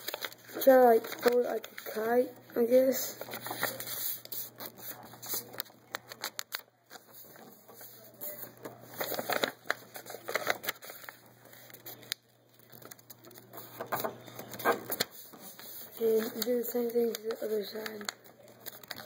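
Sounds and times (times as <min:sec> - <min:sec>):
paper being folded and creased: 0:00.0 - 0:19.0.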